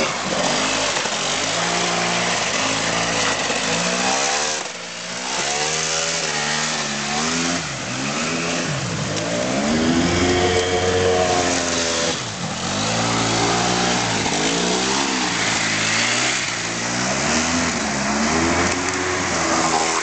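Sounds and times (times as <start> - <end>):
quad engine revving: 0.0 - 20.0
water splashing off wheels: 0.0 - 20.0.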